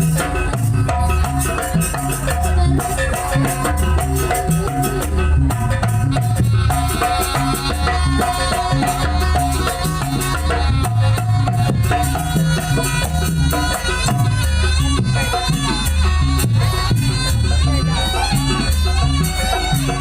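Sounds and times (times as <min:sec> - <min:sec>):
folk ensemble music: 0:00.0 - 0:20.0
low drum beat: 0:00.0 - 0:20.0
rattling percussion: 0:00.0 - 0:20.0.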